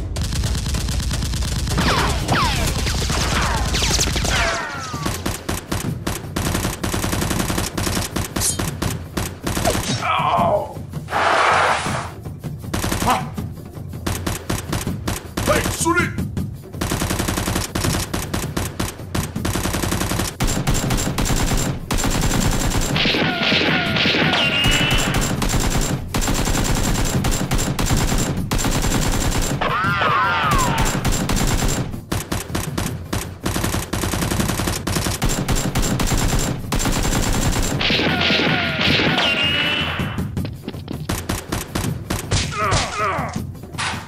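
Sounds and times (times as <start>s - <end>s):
rapid automatic gunfire: 0.0s - 9.8s, 12.7s - 13.3s, 14.1s - 15.9s, 16.8s - 29.7s, 30.4s - 39.8s, 41.1s - 42.3s.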